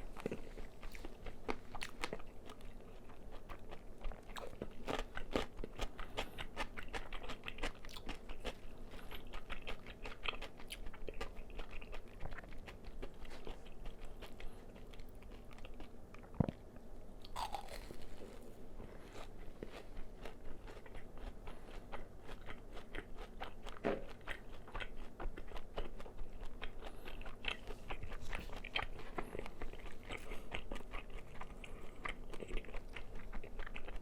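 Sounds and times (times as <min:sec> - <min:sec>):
crunchy chewing: 0:00.0 - 0:34.0.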